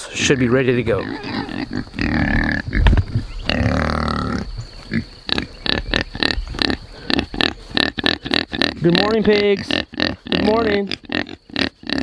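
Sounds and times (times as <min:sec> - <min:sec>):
pigs grunting: 0:00.3 - 0:12.0.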